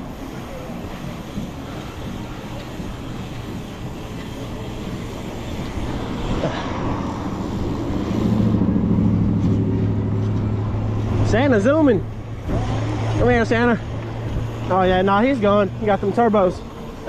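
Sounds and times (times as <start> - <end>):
bicycle rolling noise: 0.0 - 17.0
motor vehicle engine humming: 0.0 - 17.0
wind: 0.0 - 17.0.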